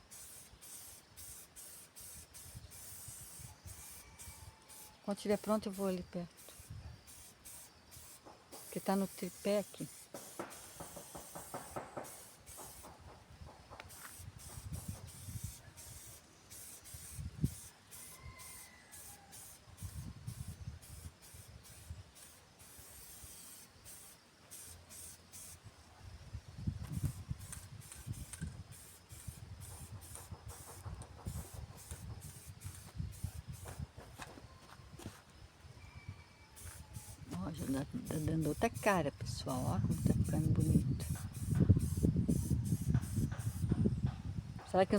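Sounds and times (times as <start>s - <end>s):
paint spraying hissing bursts: 0.0s - 25.7s, 26.9s - 34.2s, 36.6s - 44.0s.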